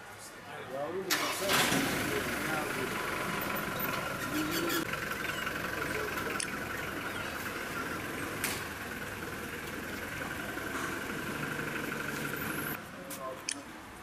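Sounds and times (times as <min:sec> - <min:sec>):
vehicle engine idling: 0:01.1 - 0:12.8.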